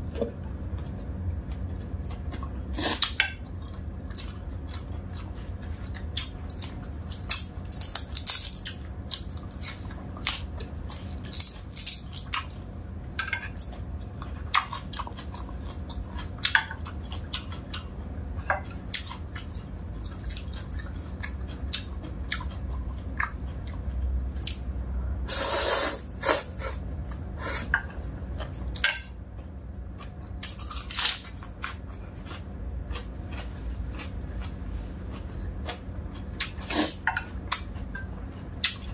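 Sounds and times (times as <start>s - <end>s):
chewing and crunching: 0.1s - 24.7s, 26.7s - 38.9s.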